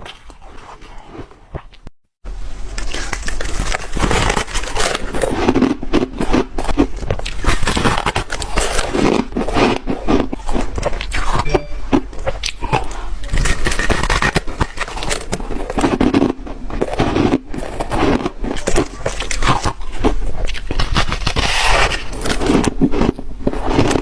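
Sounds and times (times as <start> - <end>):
chewing crunchy ice: 0.0 - 1.9, 2.6 - 24.0.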